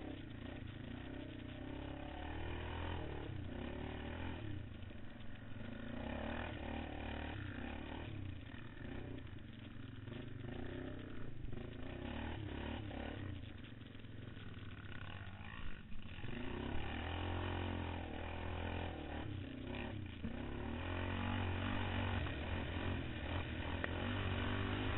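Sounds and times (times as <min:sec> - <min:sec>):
quad bike engine revving: 0:00.0 - 0:24.9.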